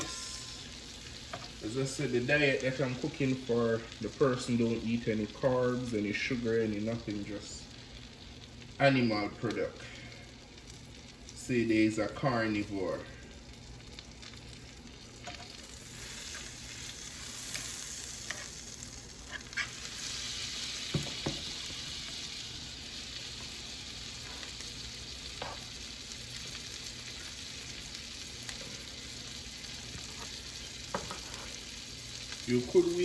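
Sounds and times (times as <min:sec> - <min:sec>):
butter sizzling in a skillet: 0:00.0 - 0:33.0.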